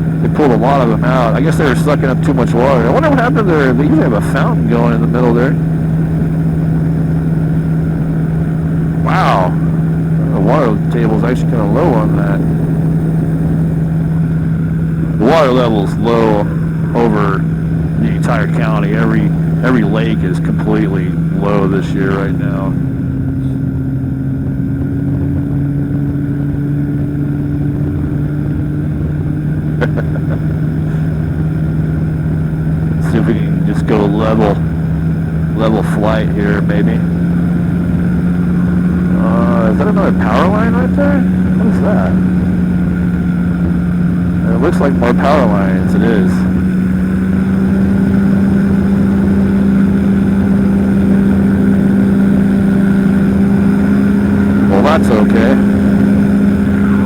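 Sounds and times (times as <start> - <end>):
engine and propeller droning: 0.0 - 57.0.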